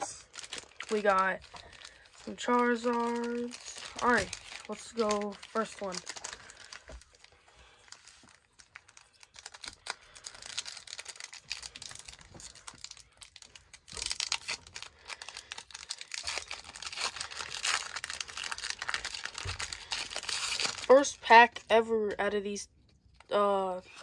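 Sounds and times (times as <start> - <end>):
foil wrapper crinkling and tearing: 0.0 - 21.6.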